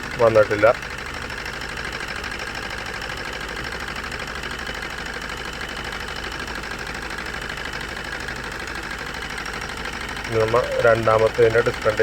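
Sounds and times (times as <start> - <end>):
diesel engine idling roughly: 0.0 - 12.0.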